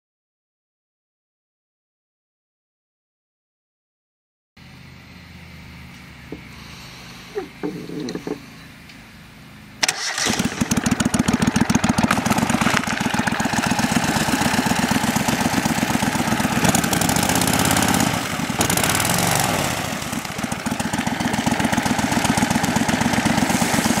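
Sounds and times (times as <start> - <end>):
loud engine running: 4.6 - 24.0.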